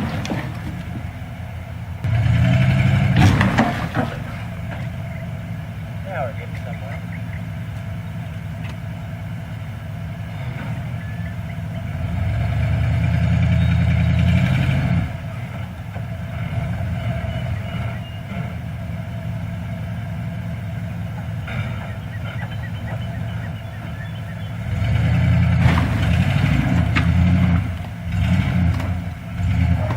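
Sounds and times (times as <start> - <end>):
engine running: 0.0 - 29.9.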